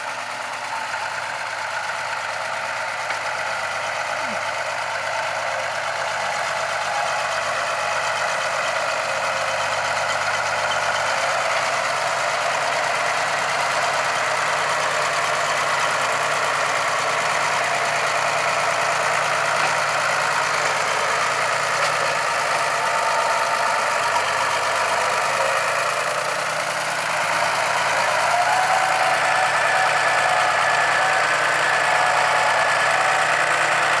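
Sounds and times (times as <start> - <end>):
tractor diesel engine: 0.0 - 34.0.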